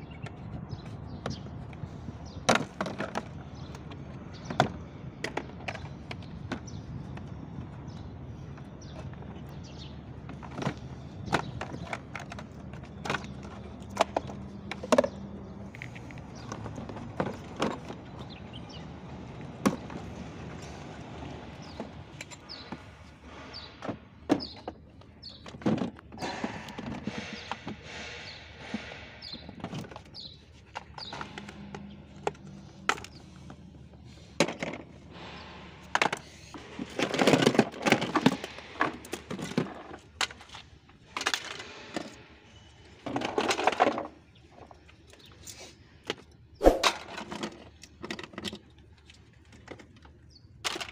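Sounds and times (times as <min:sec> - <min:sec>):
plastic parts clicking and knocking: 0:00.0 - 0:20.8, 0:21.5 - 0:50.9
plastic clatter: 0:00.2 - 0:18.8, 0:21.6 - 0:42.3, 0:42.9 - 0:46.3, 0:46.9 - 0:50.9.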